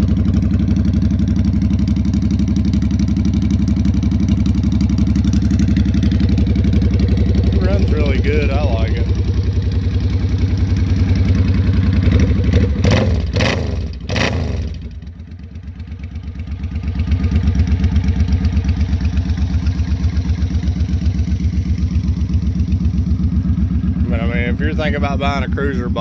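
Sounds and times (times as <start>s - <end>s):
motorcycle engine idling loudly: 0.0s - 26.0s.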